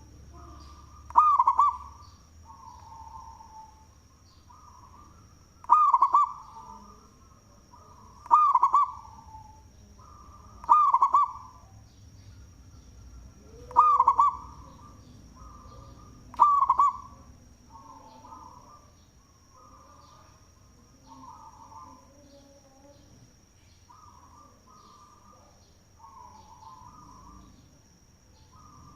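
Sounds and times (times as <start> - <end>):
dove cooing: 0.0 - 11.9, 13.1 - 23.0, 23.9 - 27.8, 28.4 - 28.9.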